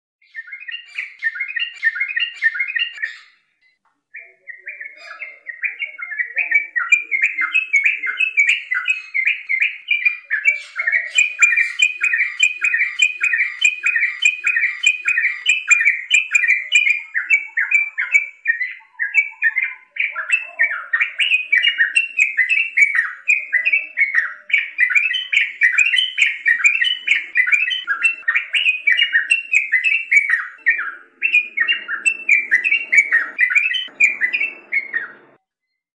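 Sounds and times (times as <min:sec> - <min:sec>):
bird chattering song: 0:00.2 - 0:35.4.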